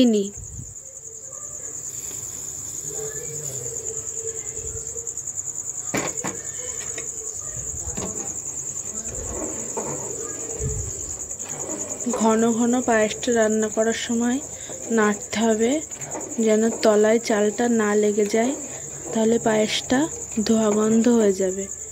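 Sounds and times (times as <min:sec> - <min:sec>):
crickets trilling: 0:00.0 - 0:21.9.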